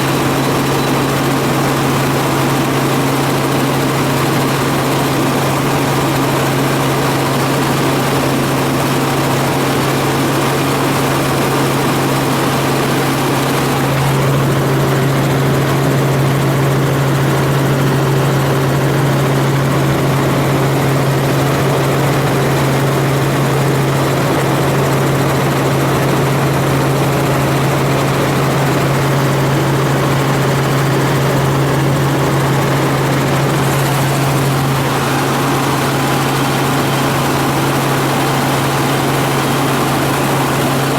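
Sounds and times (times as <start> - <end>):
helicopter rotor and engine drone: 0.0 - 40.9.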